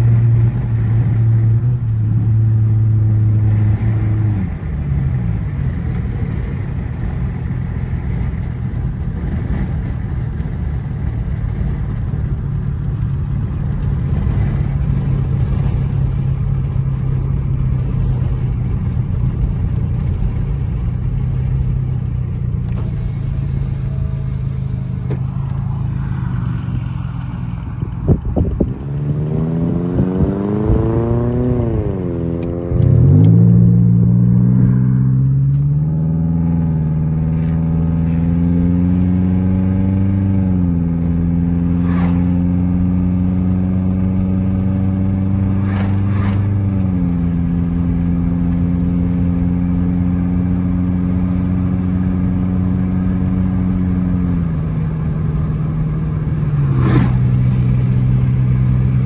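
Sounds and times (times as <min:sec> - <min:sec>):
car engine droning and revving: 0:00.0 - 0:59.0.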